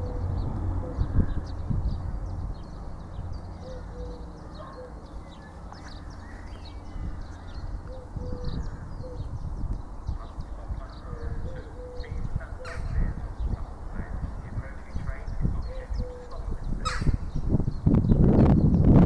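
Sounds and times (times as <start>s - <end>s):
birds chirping and calling: 0.0s - 19.0s
steady low rumble: 0.0s - 19.0s.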